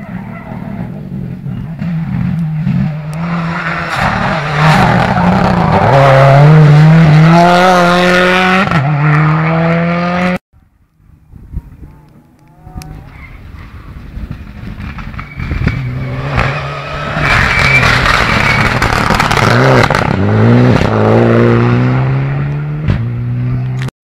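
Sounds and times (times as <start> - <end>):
rally car engine accelerating: 0.2 - 10.4, 14.0 - 23.9.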